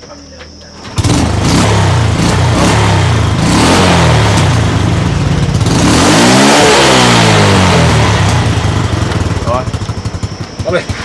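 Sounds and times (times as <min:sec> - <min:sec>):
motorbike engine idling and revving: 0:00.8 - 0:11.0.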